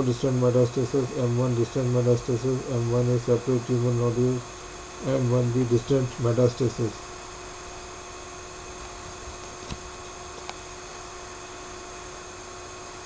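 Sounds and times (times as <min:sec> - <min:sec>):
background hiss and electrical hum: 0:00.0 - 0:13.0.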